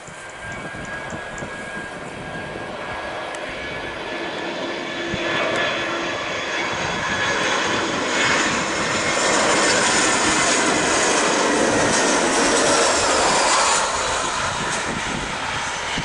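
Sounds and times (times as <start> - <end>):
jet airliner approaching: 0.0 - 16.0.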